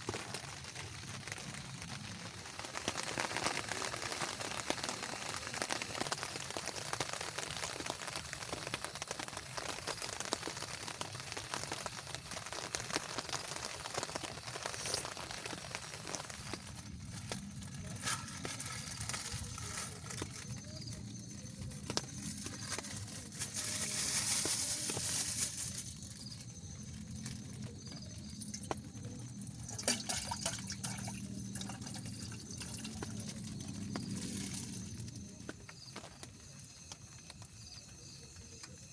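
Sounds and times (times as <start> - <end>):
water pouring with a hiss: 0.0 - 35.3
water dripping and trickling: 0.2 - 37.6.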